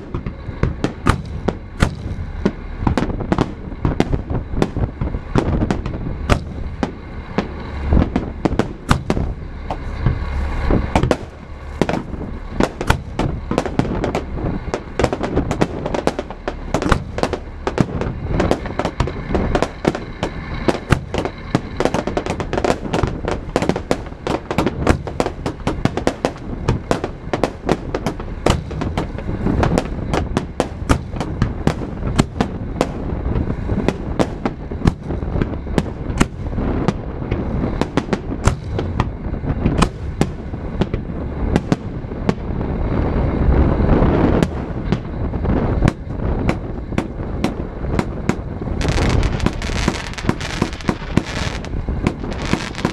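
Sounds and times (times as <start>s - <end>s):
fireworks bangs and crackling: 0.0s - 52.9s
low rumble: 0.0s - 52.9s.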